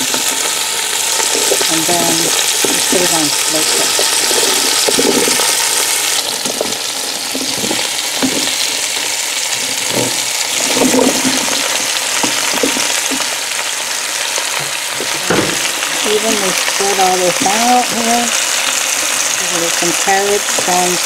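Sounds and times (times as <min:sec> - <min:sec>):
meat sizzling in pot: 0:00.0 - 0:21.0.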